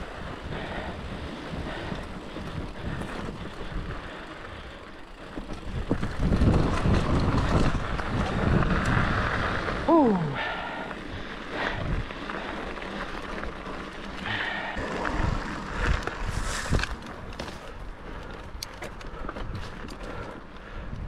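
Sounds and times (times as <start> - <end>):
bike knocking and rattling: 0.0 - 9.9, 11.0 - 21.0
bike tyres on dirt and rock: 0.0 - 21.0.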